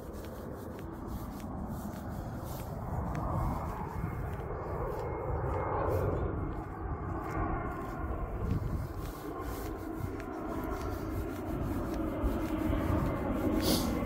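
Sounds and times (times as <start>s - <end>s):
distant engine-like rushing: 0.0s - 14.0s
wind rumbling on microphone: 0.0s - 14.0s.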